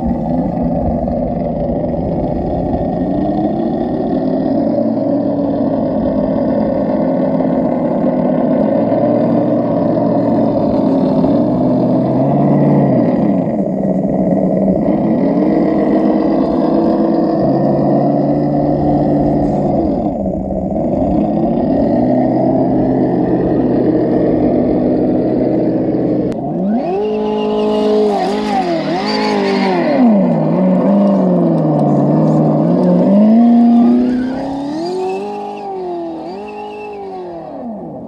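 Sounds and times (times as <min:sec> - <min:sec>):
simulated truck engine revving: 0:00.0 - 0:38.0.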